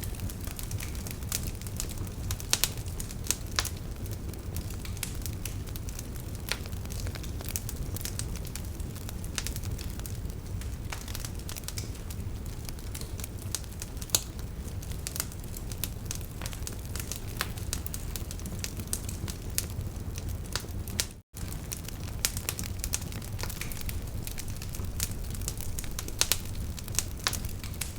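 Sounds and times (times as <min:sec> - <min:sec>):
fire crackling and popping: 0:00.0 - 0:27.9
low roar of burning flames: 0:00.0 - 0:27.9.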